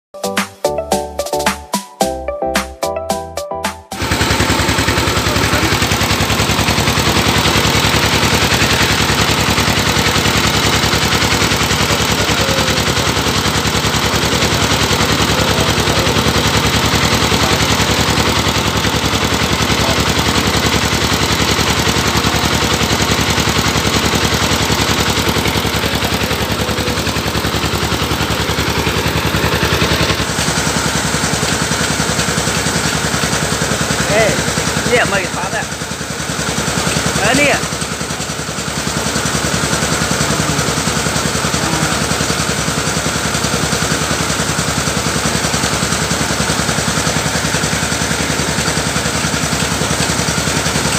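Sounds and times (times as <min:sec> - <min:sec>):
engine clattering: 0:04.0 - 0:50.9.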